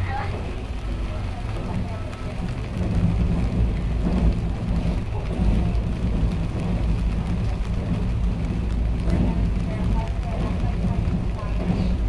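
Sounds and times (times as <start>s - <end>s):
railcar engine and wheel rumble: 0.0s - 12.0s.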